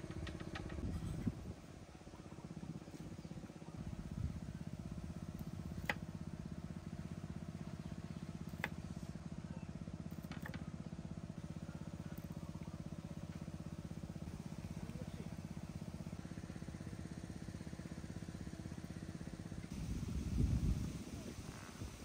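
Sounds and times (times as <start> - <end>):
small engine droning: 0.0 - 22.0.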